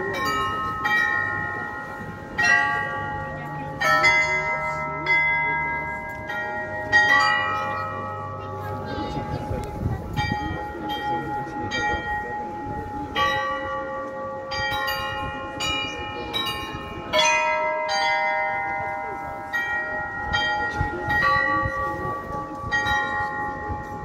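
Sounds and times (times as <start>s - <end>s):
clock chime bells melody: 0.0s - 24.0s.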